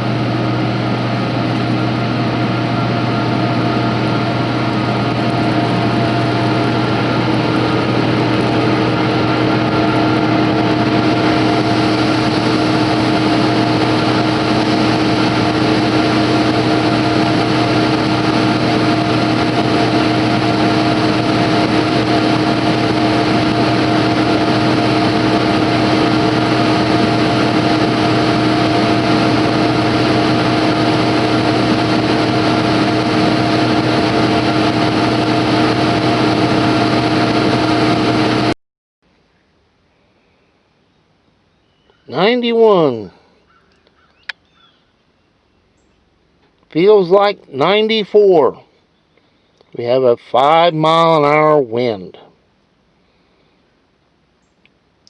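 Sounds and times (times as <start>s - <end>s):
engine running steadily: 0.0s - 38.6s, 41.8s - 44.8s, 45.7s - 55.0s.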